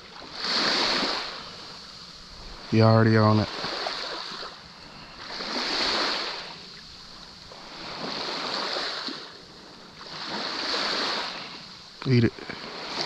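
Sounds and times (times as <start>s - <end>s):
small waves washing on sand: 0.0s - 13.0s.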